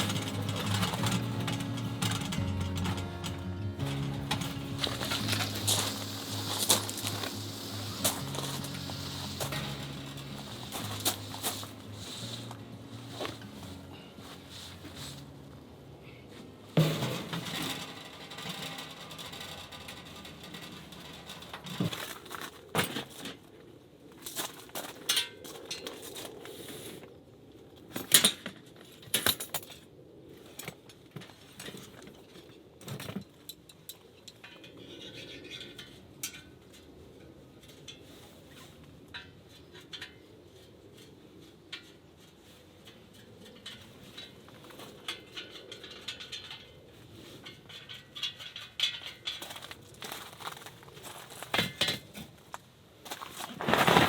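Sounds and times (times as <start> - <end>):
camping gear clinking and clattering: 0.0 - 26.8, 27.7 - 54.0.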